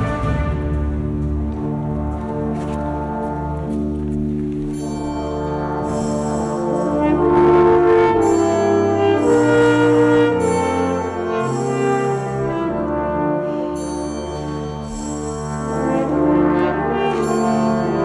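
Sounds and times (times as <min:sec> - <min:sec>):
orchestra brass playing held chords: 0:00.0 - 0:03.8, 0:05.5 - 0:18.0.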